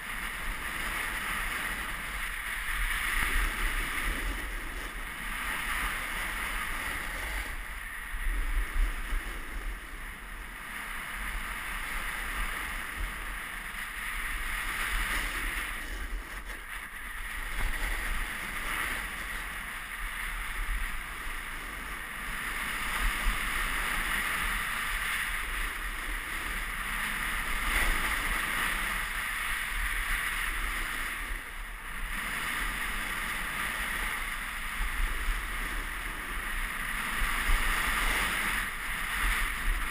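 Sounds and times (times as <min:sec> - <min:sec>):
snowboard scraping on snow: 0:00.0 - 0:39.9
wind rumbling on microphone: 0:00.0 - 0:39.9.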